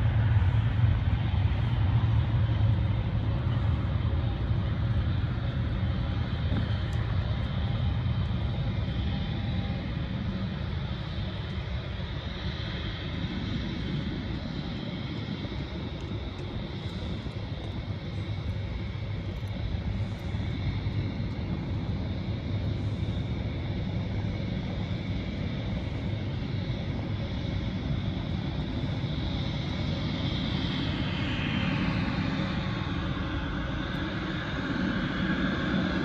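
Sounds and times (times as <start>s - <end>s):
high engine whine: 0.0s - 36.0s
jet engines rumbling: 0.0s - 36.0s.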